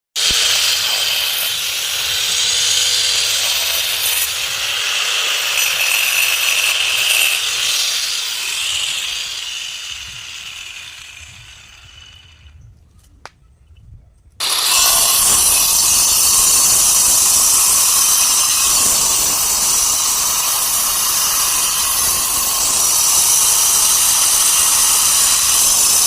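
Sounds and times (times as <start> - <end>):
power saw cutting stone: 0.2 - 12.5, 14.4 - 26.0.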